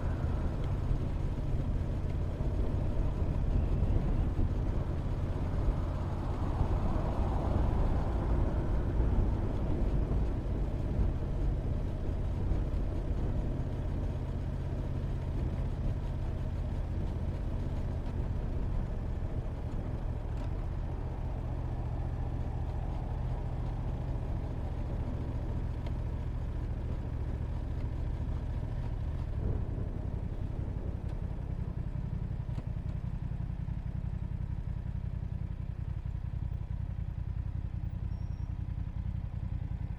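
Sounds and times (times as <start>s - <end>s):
motorcycle engine hum: 0.0s - 39.9s
road and wind noise: 0.0s - 39.9s.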